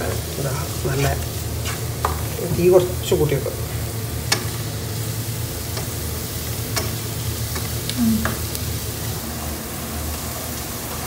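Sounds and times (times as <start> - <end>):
masala sizzling in pot: 0.0 - 11.0.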